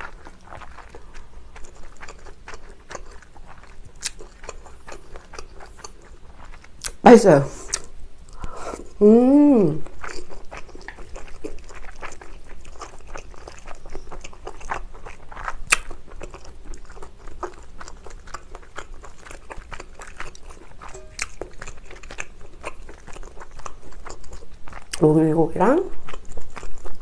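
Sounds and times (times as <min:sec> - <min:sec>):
person chewing noodles: 0:00.0 - 0:07.0, 0:07.6 - 0:09.0, 0:09.7 - 0:25.0, 0:25.9 - 0:27.0.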